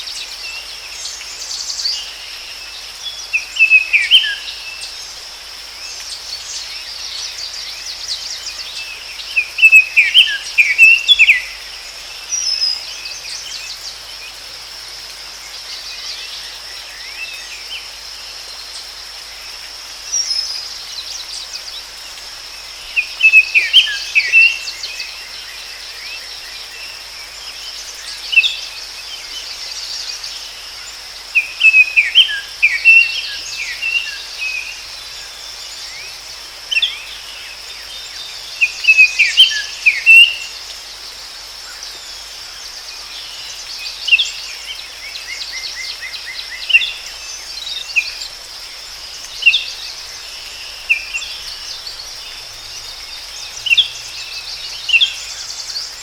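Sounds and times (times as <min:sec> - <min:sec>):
insects droning: 0:00.0 - 0:56.0
songbird singing: 0:00.0 - 0:56.0.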